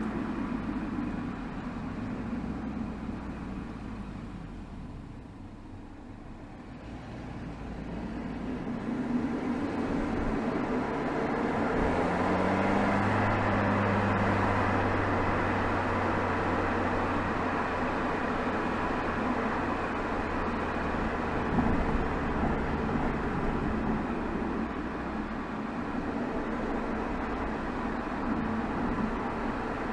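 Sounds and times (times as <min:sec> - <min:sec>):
car exhaust drone: 0:00.0 - 0:29.9
road noise: 0:00.0 - 0:29.9.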